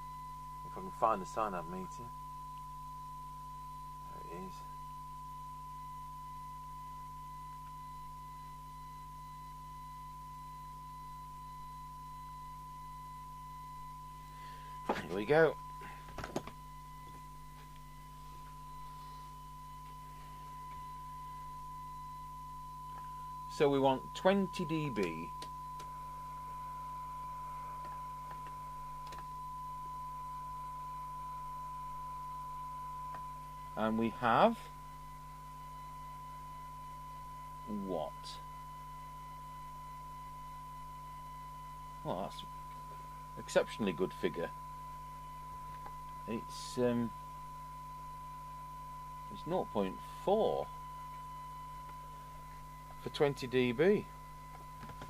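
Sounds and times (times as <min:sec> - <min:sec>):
low hum: 0:00.0 - 0:55.0
steady test tone: 0:00.0 - 0:55.0.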